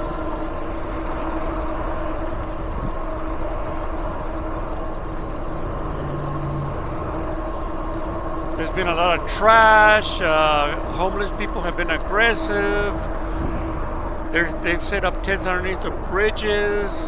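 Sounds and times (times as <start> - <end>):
road traffic hum: 2.1 - 17.0.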